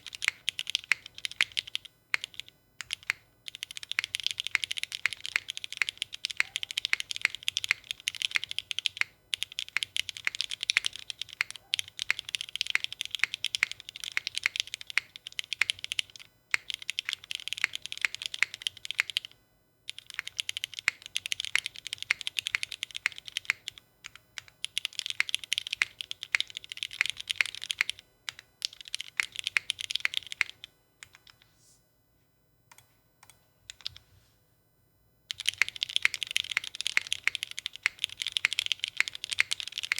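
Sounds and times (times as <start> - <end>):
mechanical keyboard typing: 0.0 - 31.4, 32.7 - 34.0, 35.3 - 39.9.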